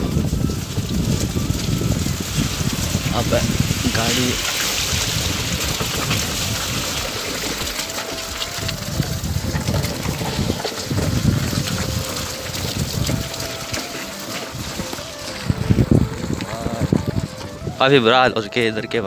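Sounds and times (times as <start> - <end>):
vehicle engine running: 0.0 - 17.9
tyres on wet mud: 0.0 - 19.0
wind buffeting microphone: 0.0 - 19.0.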